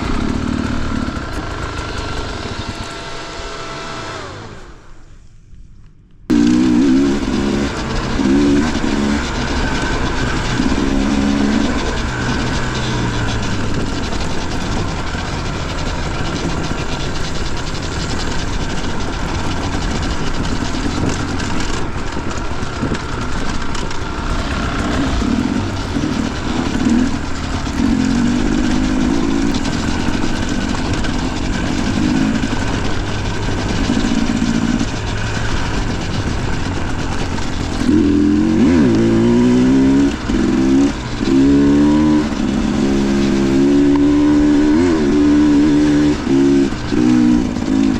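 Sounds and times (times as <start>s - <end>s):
dirt bike engine revving: 0.0s - 5.1s, 6.3s - 47.9s.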